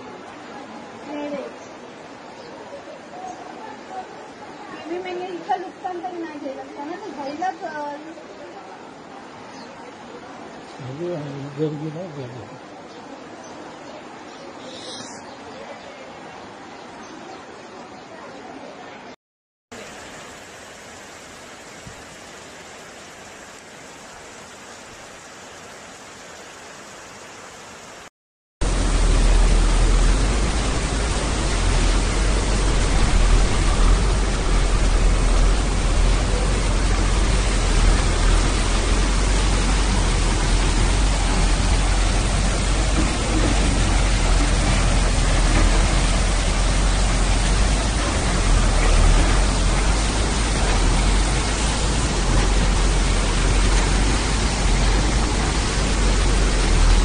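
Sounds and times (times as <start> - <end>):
floodwater rushing: 0.0 - 19.1, 19.7 - 57.0.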